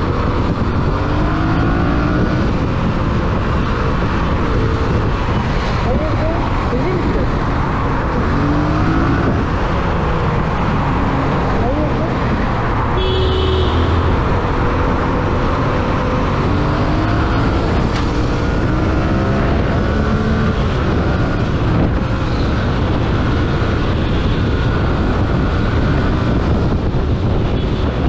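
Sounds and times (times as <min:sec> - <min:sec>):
wind rush on microphone: 0:00.0 - 0:28.0.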